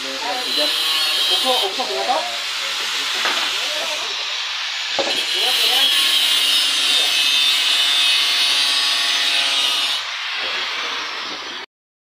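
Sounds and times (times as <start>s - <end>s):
power saw cutting wood: 0.0s - 11.7s.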